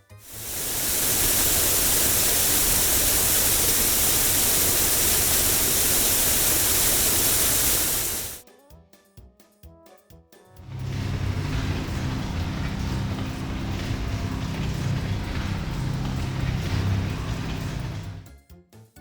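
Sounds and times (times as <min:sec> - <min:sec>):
loud steady hiss: 0:00.0 - 0:08.4, 0:10.7 - 0:18.3.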